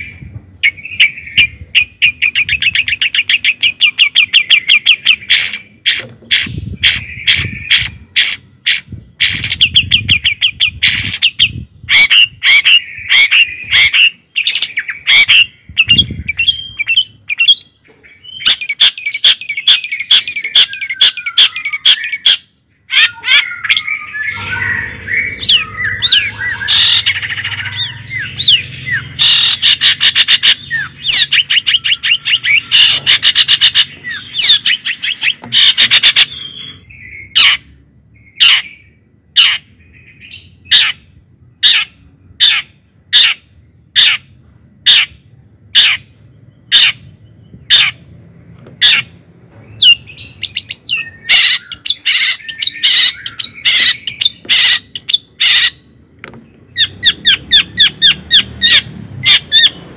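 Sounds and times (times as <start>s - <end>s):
birds sliding calls: 0.0s - 37.7s, 45.8s - 59.9s
birds chirping: 0.0s - 59.9s.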